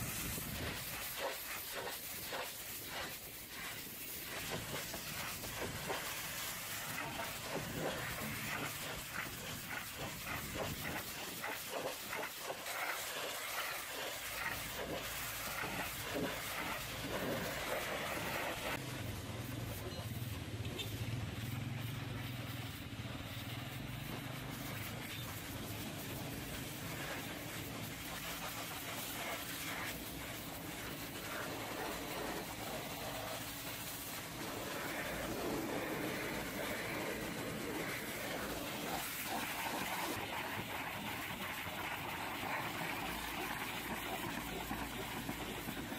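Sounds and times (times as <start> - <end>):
pressure washer spraying metal: 0.0 - 45.9.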